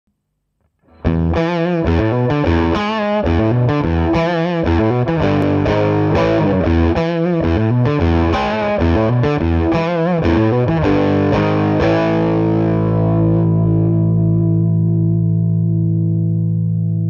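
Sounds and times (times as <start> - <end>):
distorted electric guitar riff: 0.8 - 17.0
ringing guitar chord: 0.9 - 17.0.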